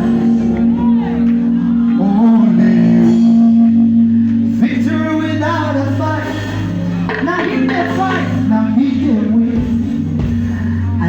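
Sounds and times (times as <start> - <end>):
gospel band playing: 0.0 - 11.0.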